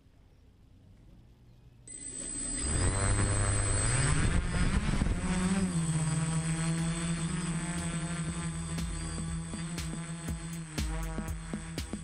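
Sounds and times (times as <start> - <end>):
drone propellers buzzing whine: 1.9 - 12.0.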